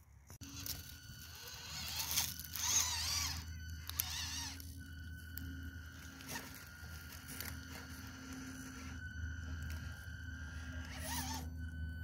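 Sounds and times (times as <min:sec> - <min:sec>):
small electric motor whining: 0:00.3 - 0:12.0.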